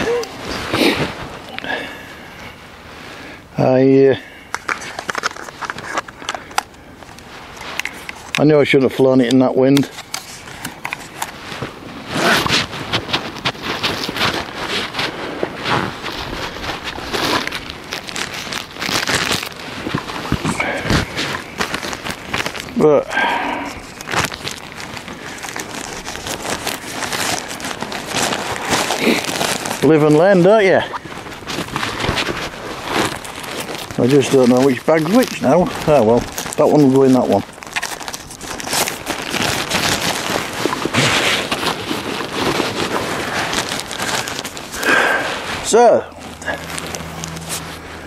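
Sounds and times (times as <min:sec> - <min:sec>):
plastic bag crinkling: 0:04.5 - 0:48.0.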